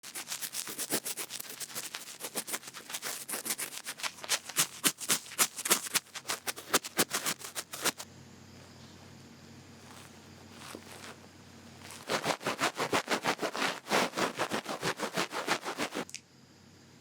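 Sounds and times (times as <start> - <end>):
ear scratching and rubbing: 0.0 - 8.0, 9.8 - 11.2, 11.8 - 16.1.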